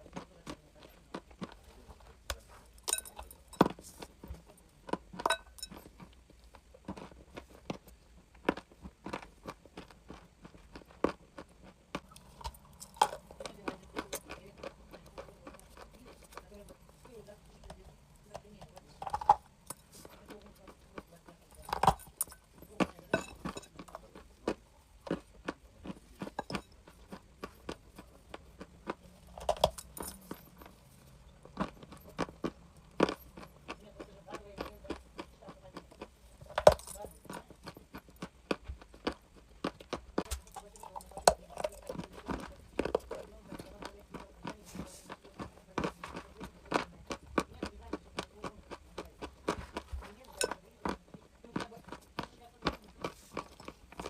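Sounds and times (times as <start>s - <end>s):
chalk crunching when chewed: 0.0s - 18.2s, 18.9s - 54.0s.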